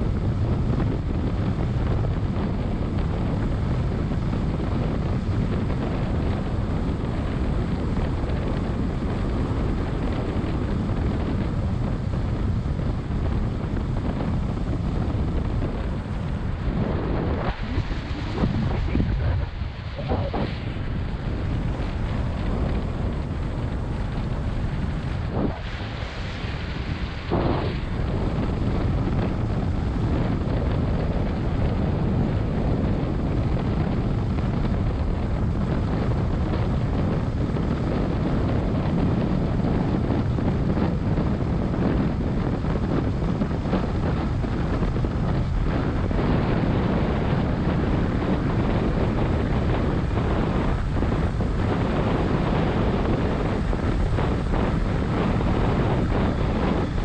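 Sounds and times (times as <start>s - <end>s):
truck engine and road noise: 0.0s - 57.0s
wind buffeting microphone: 0.0s - 57.0s.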